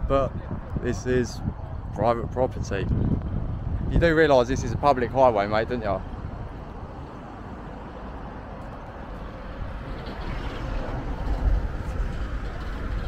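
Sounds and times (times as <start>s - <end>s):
low traffic rumble: 0.0s - 13.0s
passing vehicles hum: 0.0s - 13.0s.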